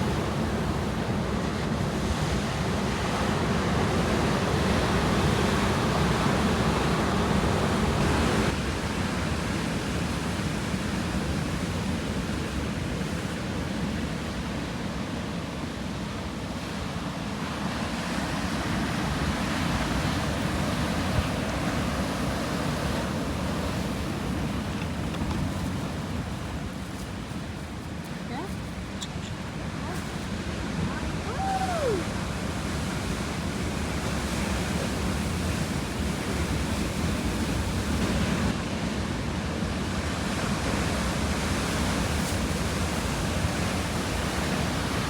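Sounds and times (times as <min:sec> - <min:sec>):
sea waves washing in: 0:00.0 - 0:45.0.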